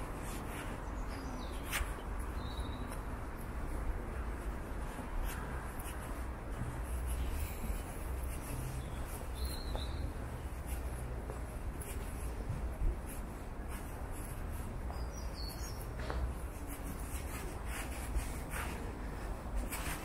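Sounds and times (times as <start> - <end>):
city traffic rumble: 0.0 - 20.0
scuffing footsteps: 0.0 - 20.0.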